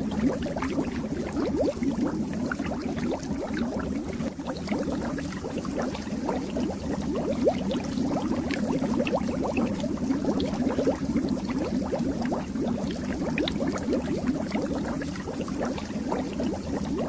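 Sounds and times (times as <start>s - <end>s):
fish tank bubbles gurgling: 0.0s - 17.0s.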